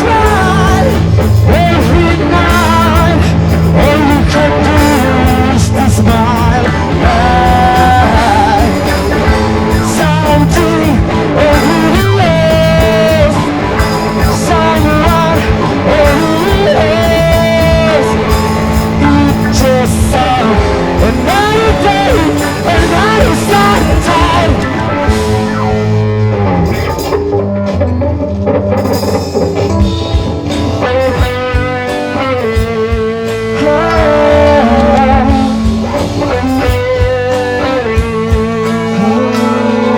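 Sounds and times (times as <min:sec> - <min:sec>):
person singing: 0:00.0 - 0:26.7, 0:30.8 - 0:39.9
drum kit: 0:00.0 - 0:39.9
electric guitar: 0:00.0 - 0:39.9.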